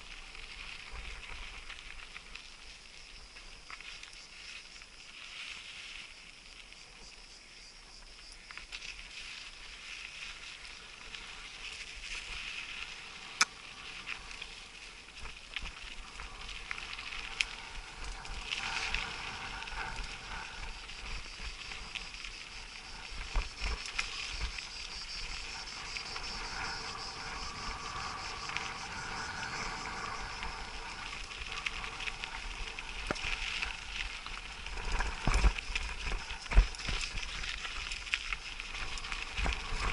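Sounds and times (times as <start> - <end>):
bike tyres rumbling on dirt: 0.0 - 39.9
insects chirring: 0.0 - 39.9.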